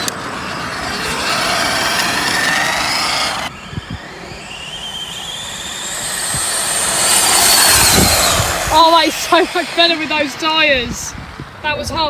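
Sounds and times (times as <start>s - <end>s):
electric motors whining: 0.0s - 11.7s.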